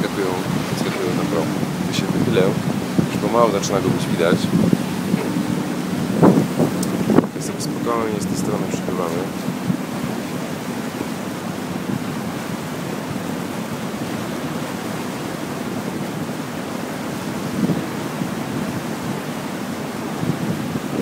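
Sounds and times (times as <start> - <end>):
water rushing along ship hull: 0.0 - 21.0
wind buffeting microphone: 0.0 - 21.0.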